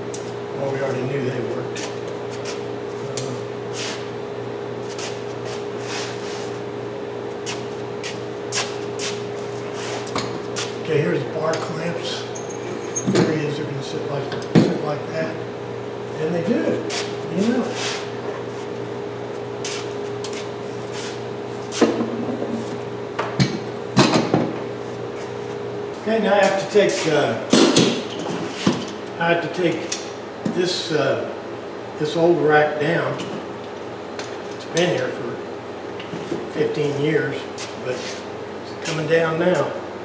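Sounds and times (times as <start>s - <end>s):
steady mechanical hum: 0.0s - 40.0s.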